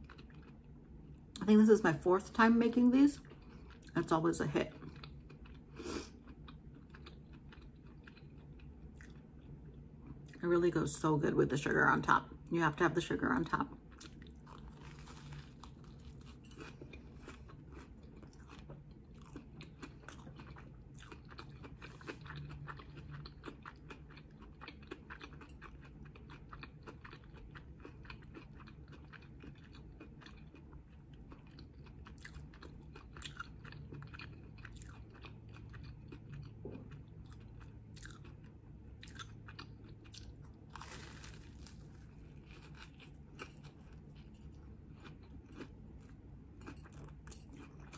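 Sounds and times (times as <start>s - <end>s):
crunching and chewing food: 0.0s - 10.7s, 13.0s - 47.9s.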